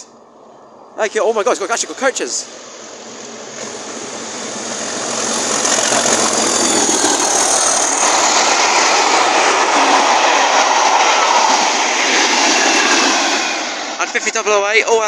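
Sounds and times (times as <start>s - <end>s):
diesel locomotive engine working hard: 0.0s - 15.0s
train coaches running past: 0.0s - 15.0s.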